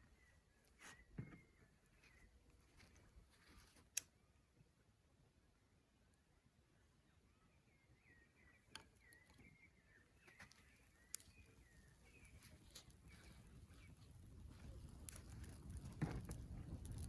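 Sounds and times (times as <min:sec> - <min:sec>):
faint bird chirping: 0:00.0 - 0:15.5.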